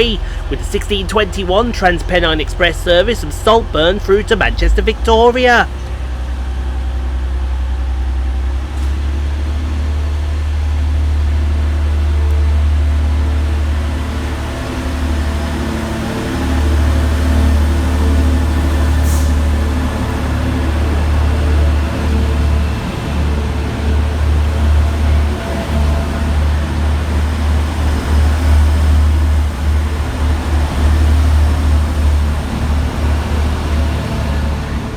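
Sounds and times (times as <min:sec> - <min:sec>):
diesel train engine drone: 0:00.0 - 0:34.9.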